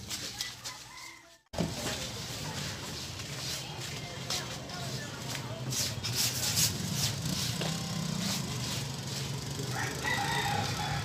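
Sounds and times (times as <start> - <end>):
footsteps scuffing on pavement: 0.0 - 11.0.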